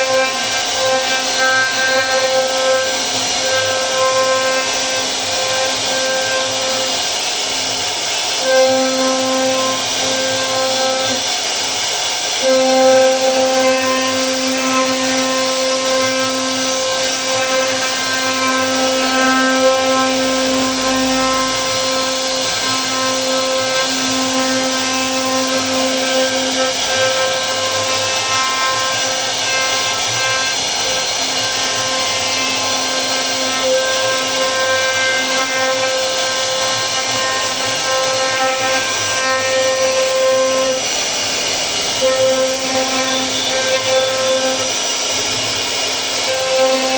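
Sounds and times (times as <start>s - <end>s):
router cutting wood: 0.0s - 46.9s
router spindle whine: 0.0s - 46.9s.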